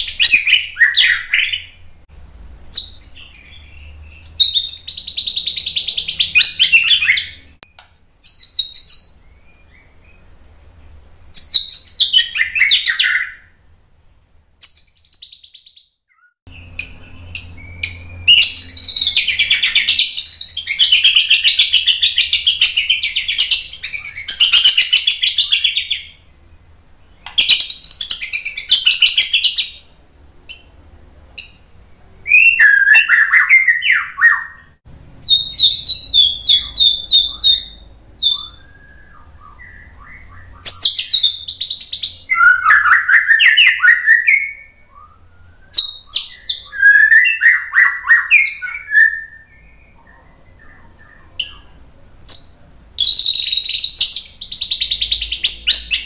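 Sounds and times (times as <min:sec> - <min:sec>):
bird singing whistles and chatter: 0:00.0 - 0:01.8, 0:02.7 - 0:10.3, 0:11.3 - 0:13.6, 0:14.6 - 0:26.2, 0:31.4 - 0:56.0.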